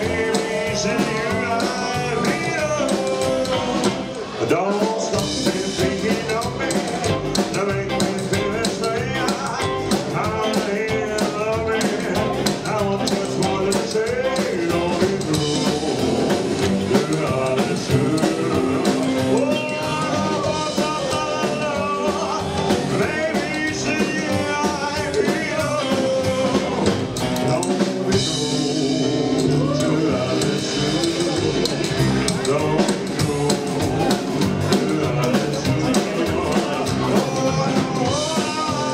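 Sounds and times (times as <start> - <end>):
live rock and roll band: 0.0 - 38.9.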